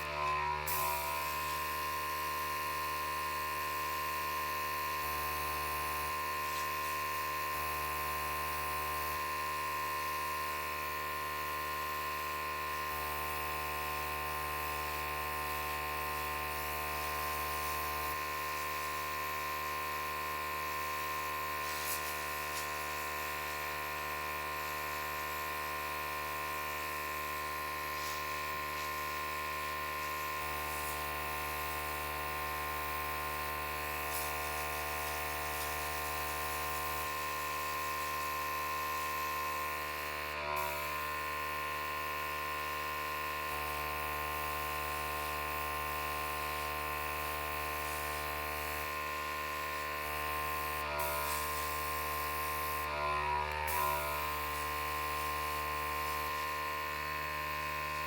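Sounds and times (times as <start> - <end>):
electric air gun motor hum: 0.0 - 58.0.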